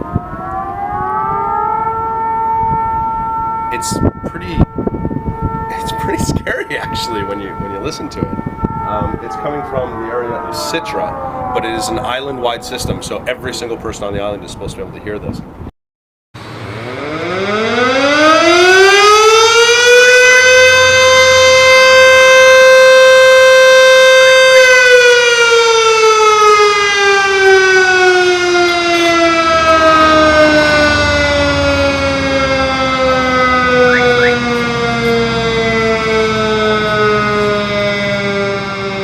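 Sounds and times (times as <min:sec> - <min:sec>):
warning siren wailing: 0:00.0 - 0:14.7, 0:16.4 - 0:39.0.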